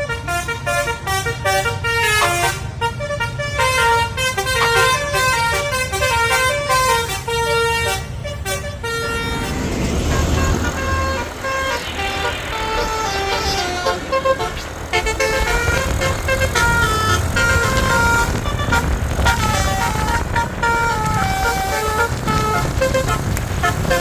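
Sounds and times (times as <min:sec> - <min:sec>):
bus engine rumble: 0:00.0 - 0:24.0
multi-tone bus horn tune: 0:00.0 - 0:24.0.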